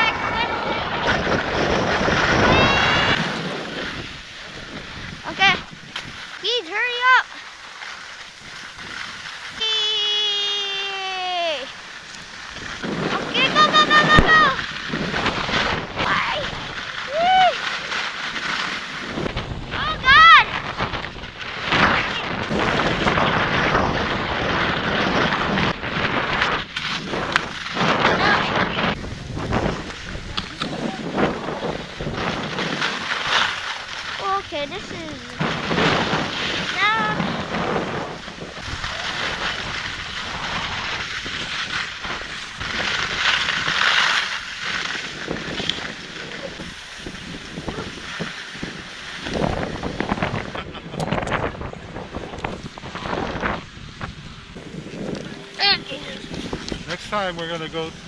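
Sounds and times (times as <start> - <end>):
wind rushing over microphone: 0.0 - 7.4, 8.1 - 58.0
skis scraping across snow: 0.0 - 58.0.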